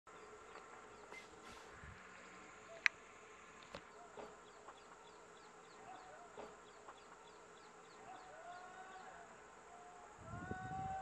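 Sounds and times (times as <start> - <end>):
insects chirping: 0.1 - 11.0.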